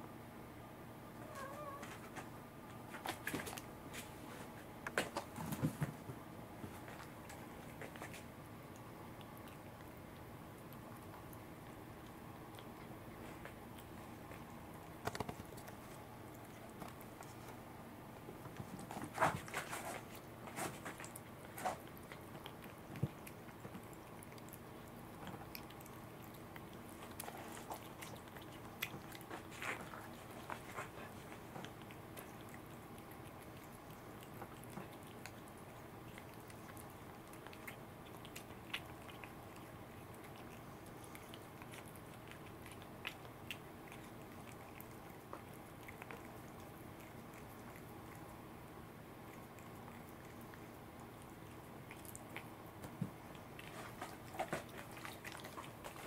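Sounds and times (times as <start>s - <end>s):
animals chewing and licking: 1.4s - 56.0s.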